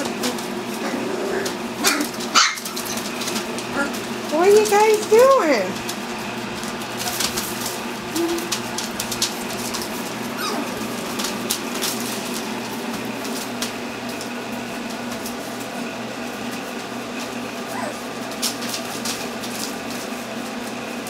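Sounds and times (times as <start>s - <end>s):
puppy paws on newspaper: 0.0s - 21.0s.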